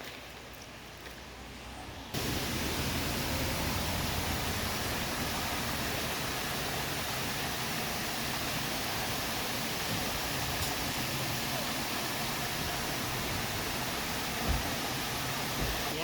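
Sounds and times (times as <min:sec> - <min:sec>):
waterfall rushing: 0:02.2 - 0:16.0.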